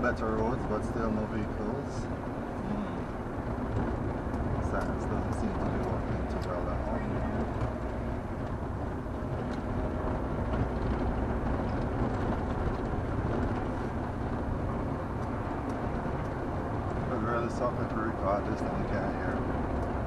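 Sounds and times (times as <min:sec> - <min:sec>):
car engine and tyre noise: 0:00.0 - 0:20.0.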